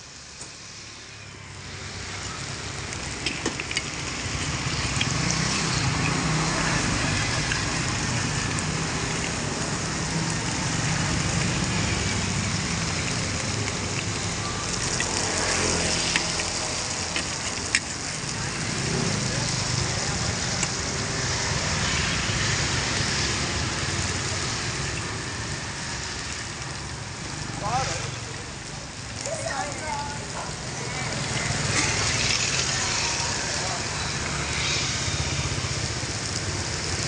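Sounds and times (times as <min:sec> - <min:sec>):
batter sizzling in oil: 0:00.0 - 0:37.0.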